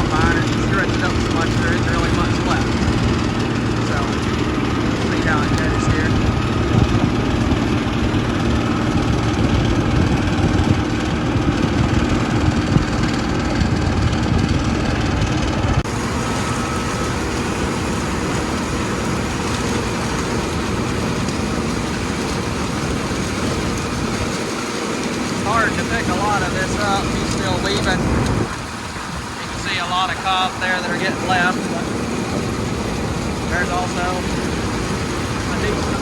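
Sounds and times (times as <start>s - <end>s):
heavy farm machinery running: 0.0s - 36.0s.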